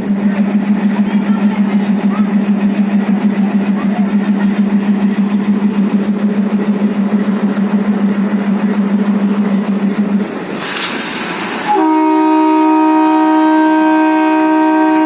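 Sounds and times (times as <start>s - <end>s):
locomotive drone: 0.0s - 15.0s.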